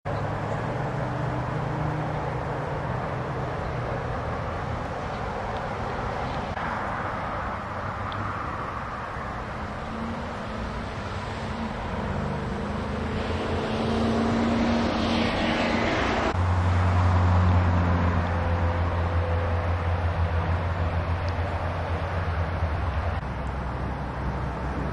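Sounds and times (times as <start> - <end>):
vehicle engine noise: 0.0 - 24.9
loud low engine hum: 0.1 - 24.9.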